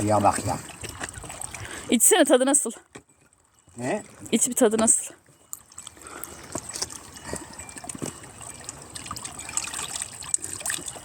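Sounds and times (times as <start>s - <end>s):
fountain water trickling and splashing: 0.0s - 11.0s.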